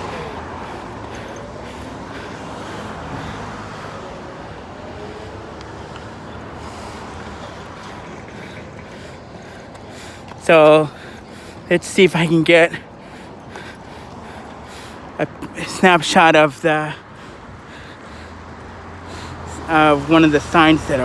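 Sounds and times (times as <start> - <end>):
passing cars: 0.0 - 21.0.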